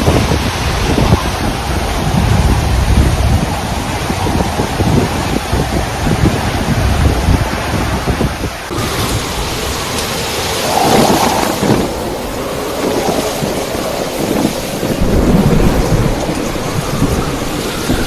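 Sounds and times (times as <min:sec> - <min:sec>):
heavy rain: 0:00.0 - 0:18.0
wind gusting loudly: 0:00.0 - 0:18.0.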